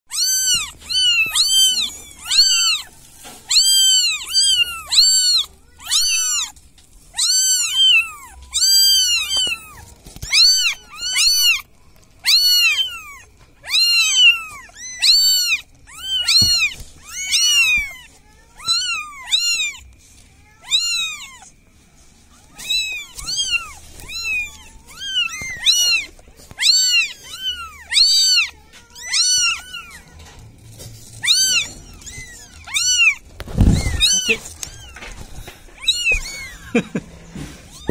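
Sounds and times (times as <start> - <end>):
kittens mewing: 0.1 - 21.6, 22.4 - 37.9.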